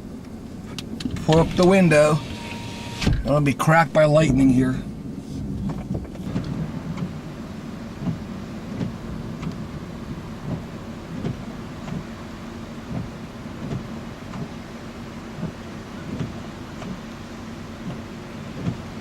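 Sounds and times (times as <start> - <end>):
rain ticking on car roof: 0.1 - 19.0
steady low rumble: 3.0 - 19.0.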